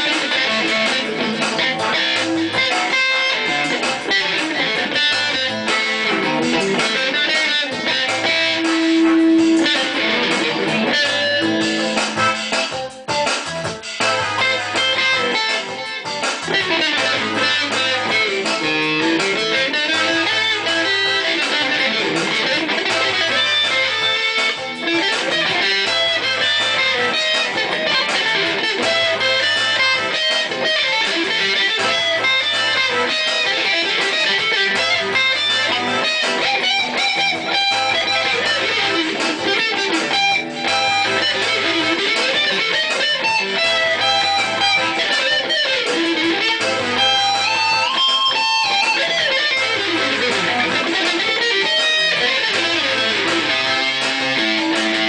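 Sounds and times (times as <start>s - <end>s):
electric guitar picked line: 0.0s - 55.0s.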